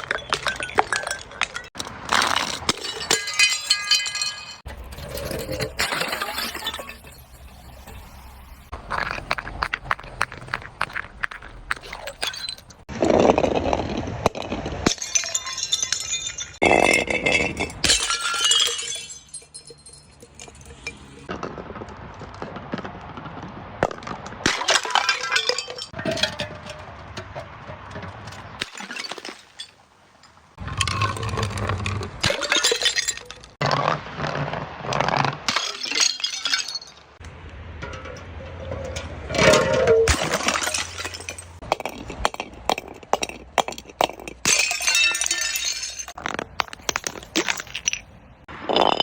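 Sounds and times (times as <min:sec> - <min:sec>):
glass shards clinking: 0:00.0 - 0:09.3, 0:10.5 - 0:12.9, 0:14.8 - 0:21.3, 0:24.5 - 0:33.6, 0:35.5 - 0:37.2, 0:37.8 - 0:49.0
glass bottles breaking: 0:00.0 - 0:21.3, 0:24.4 - 0:33.9, 0:35.0 - 0:37.2, 0:39.4 - 0:49.0.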